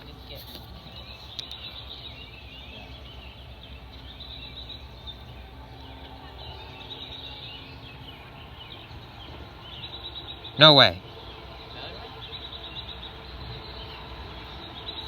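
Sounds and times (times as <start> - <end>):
low outdoor hum: 0.0 - 15.0
small birds chirping: 0.0 - 15.0.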